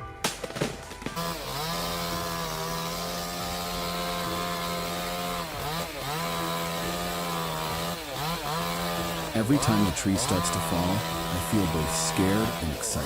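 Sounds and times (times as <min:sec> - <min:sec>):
chainsaw running at high revs: 0:00.4 - 0:13.0.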